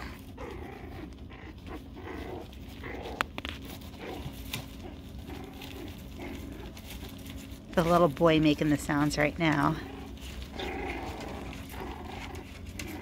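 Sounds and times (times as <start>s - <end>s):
puppies growling and whimpering: 0.0s - 13.0s.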